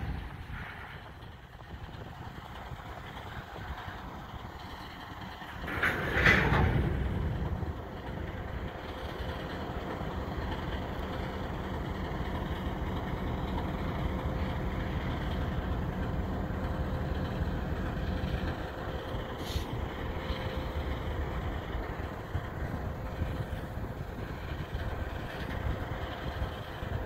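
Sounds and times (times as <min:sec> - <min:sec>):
diesel locomotive engine rumbling: 0:00.0 - 0:27.0
freight cars rolling: 0:00.0 - 0:27.0.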